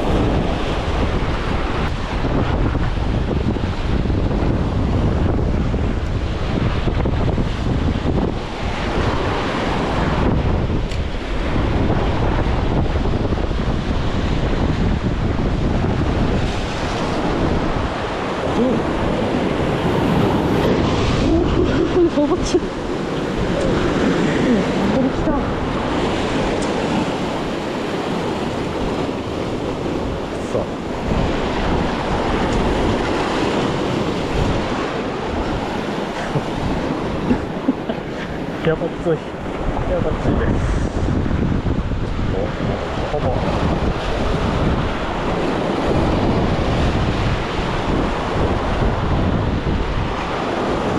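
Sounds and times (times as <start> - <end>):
sea waves: 0.0 - 50.9
wind buffeting microphone: 0.0 - 50.9.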